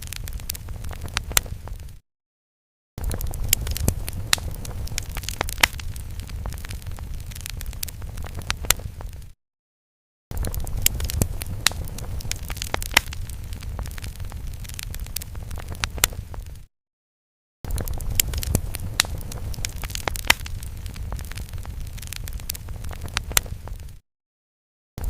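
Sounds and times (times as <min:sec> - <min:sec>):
fire crackling and popping: 0:00.0 - 0:02.0, 0:03.0 - 0:09.4, 0:10.3 - 0:16.7, 0:17.7 - 0:24.0.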